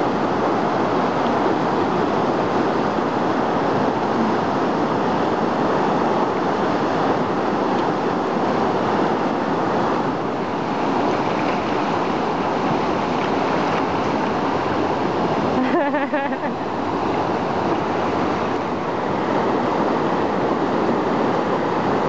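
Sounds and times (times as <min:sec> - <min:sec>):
river rapid rushing: 0:00.0 - 0:22.0.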